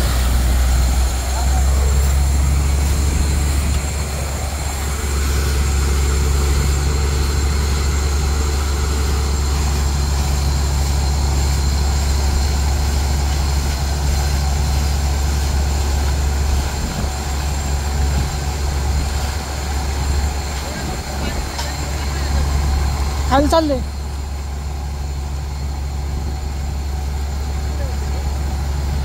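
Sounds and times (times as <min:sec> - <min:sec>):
drilling rig engine humming: 0:00.0 - 0:29.0.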